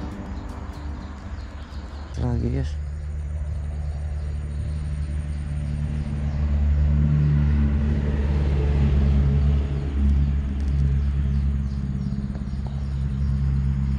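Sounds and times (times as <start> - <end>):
road traffic passing: 0.0 - 13.9.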